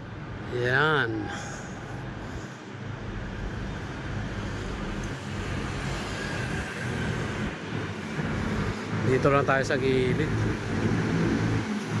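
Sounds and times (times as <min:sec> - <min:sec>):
passing vehicles: 0:00.0 - 0:12.0.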